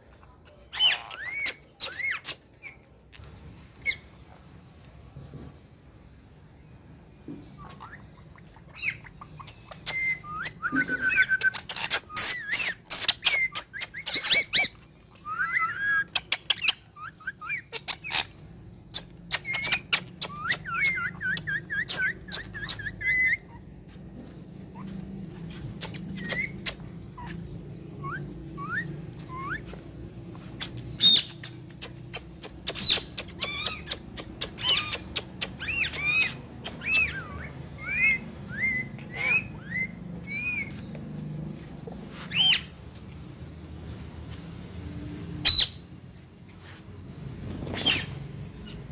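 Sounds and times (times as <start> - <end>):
parakeet whistling and chirping: 0.4 - 4.4, 7.4 - 41.2, 42.2 - 43.2, 45.3 - 46.0, 47.6 - 48.9.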